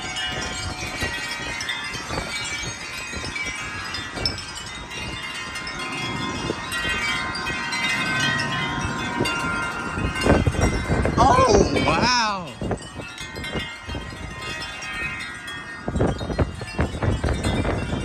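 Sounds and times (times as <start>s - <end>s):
wind buffeting microphone: 0.0s - 18.0s
wind chimes ringing: 0.0s - 18.0s.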